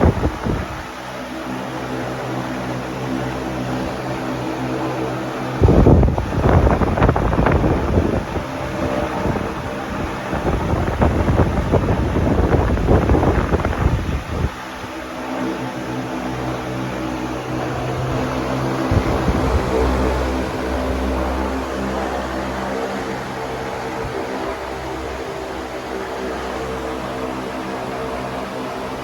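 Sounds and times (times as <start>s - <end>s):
wind buffeting microphone: 0.0s - 1.1s, 4.7s - 29.0s
wall fan motor hum: 0.0s - 29.0s.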